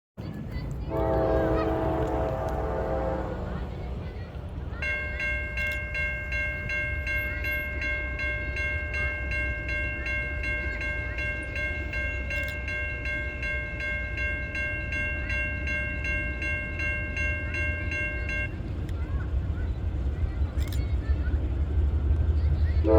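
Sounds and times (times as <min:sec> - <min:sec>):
freight train rumble: 0:00.2 - 0:22.9
railroad crossing bell ringing: 0:00.3 - 0:21.1.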